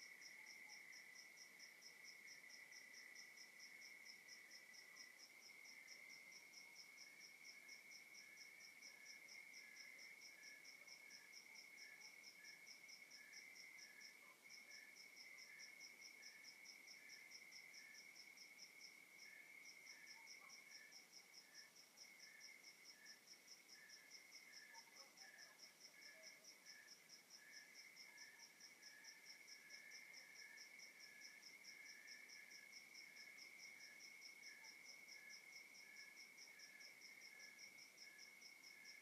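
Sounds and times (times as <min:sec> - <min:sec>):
slower cricket chirp: 0:00.0 - 0:39.0.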